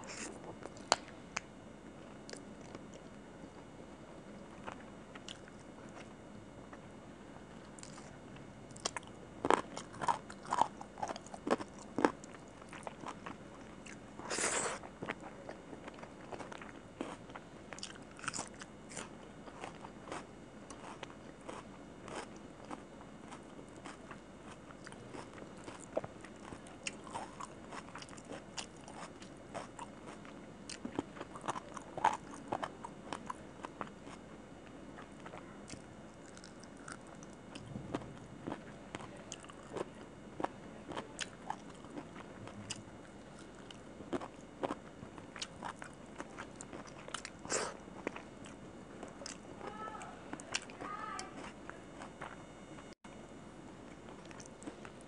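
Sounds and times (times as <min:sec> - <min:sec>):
close chewing of food: 0:02.0 - 0:03.6, 0:04.4 - 0:06.2, 0:07.5 - 0:34.3, 0:34.9 - 0:49.6, 0:50.3 - 0:52.4, 0:53.9 - 0:55.0.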